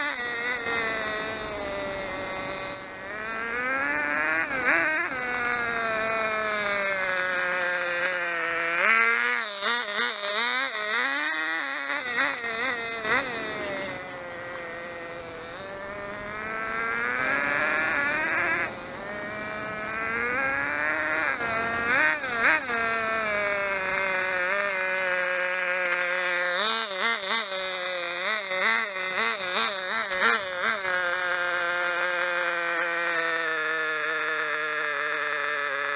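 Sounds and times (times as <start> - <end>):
model car engine buzzing: 0.0 - 35.9.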